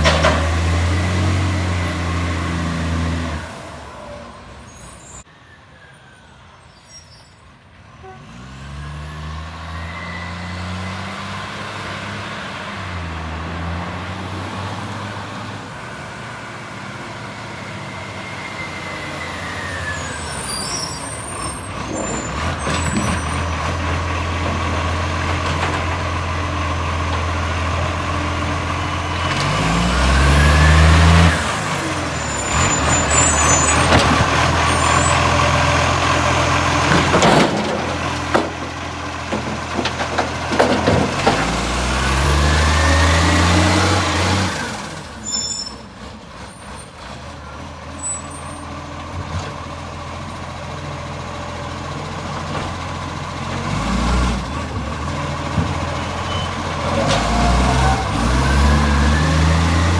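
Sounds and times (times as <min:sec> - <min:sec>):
truck diesel engine revving: 0:00.0 - 0:04.9, 0:08.2 - 0:59.9.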